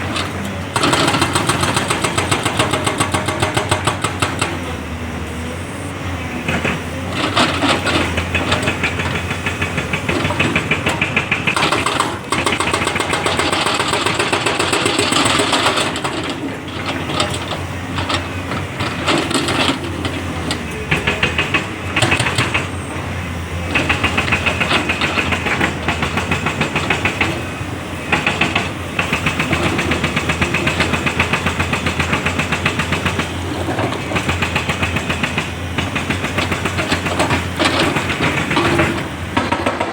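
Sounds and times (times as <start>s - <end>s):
heavy diesel engine clattering: 0.0s - 39.9s.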